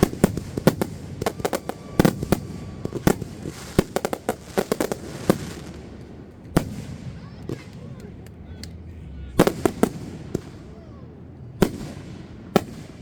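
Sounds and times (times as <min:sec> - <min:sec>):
fireworks bangs and pops: 0:00.0 - 0:08.8, 0:09.4 - 0:10.7, 0:11.5 - 0:13.0.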